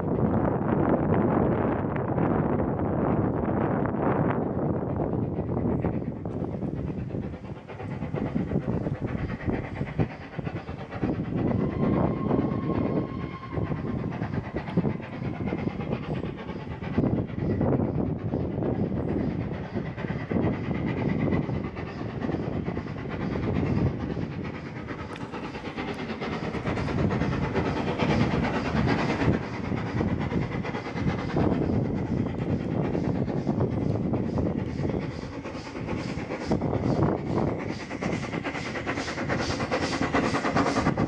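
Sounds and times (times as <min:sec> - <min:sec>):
steam locomotive rumbling: 0:00.0 - 0:41.0.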